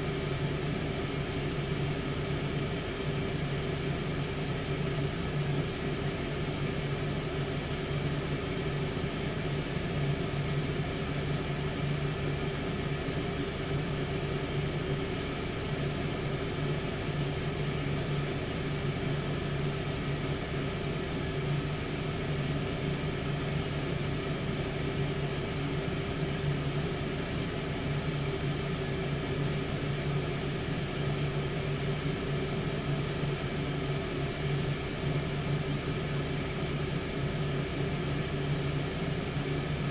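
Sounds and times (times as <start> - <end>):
air fryer fan humming: 0.0 - 39.9.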